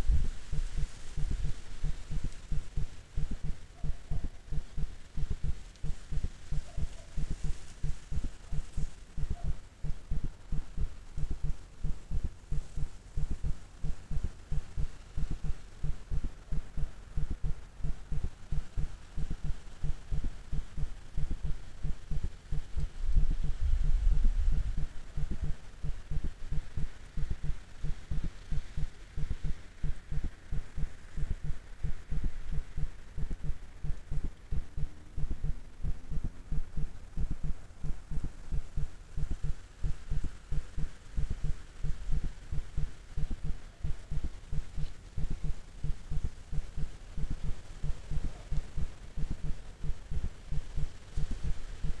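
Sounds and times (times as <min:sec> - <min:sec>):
rapid low thumps: 0:00.0 - 0:52.0.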